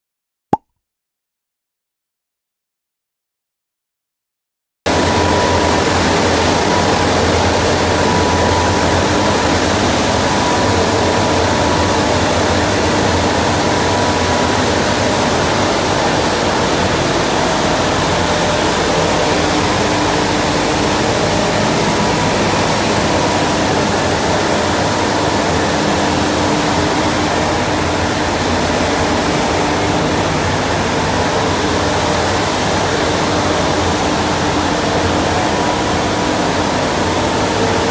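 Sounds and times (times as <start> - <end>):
machinery hum: 4.9 - 37.9.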